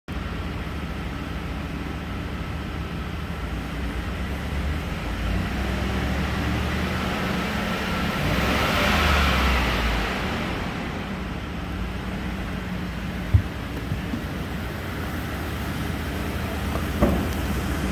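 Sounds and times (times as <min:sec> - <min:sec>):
engine running steadily: 0:00.1 - 0:17.9.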